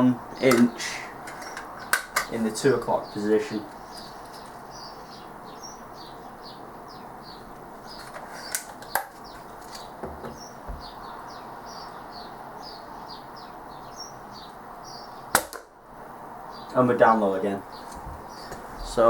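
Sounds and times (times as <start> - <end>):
bird chirping: 0.0 - 15.8, 16.4 - 19.0
background hiss: 0.0 - 19.0.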